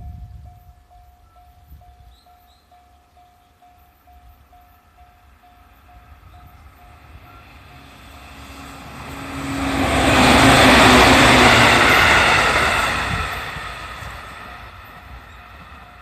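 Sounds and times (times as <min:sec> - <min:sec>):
crossing warning bell: 0:00.0 - 0:16.0
train rumbling over rails: 0:00.0 - 0:16.0.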